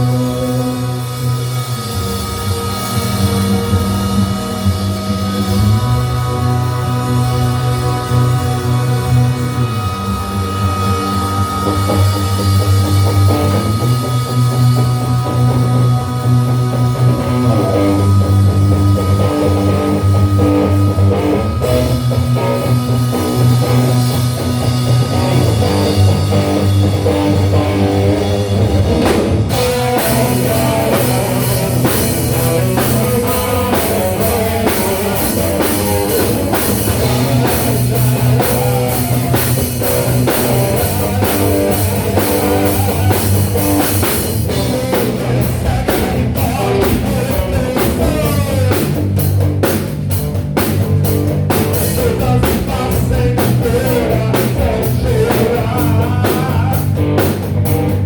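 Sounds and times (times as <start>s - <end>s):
bass guitar notes: 0.0s - 58.0s
drum kit: 0.0s - 58.0s.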